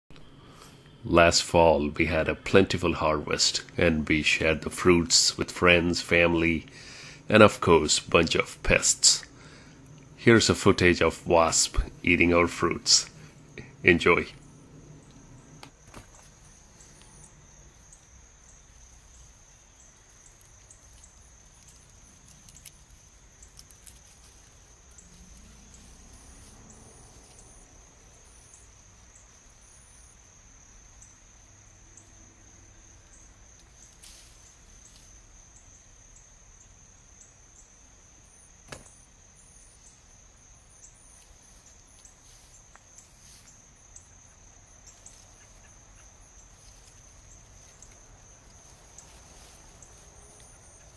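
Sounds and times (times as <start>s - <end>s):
high-pitched insect trill: 3.6s - 50.9s.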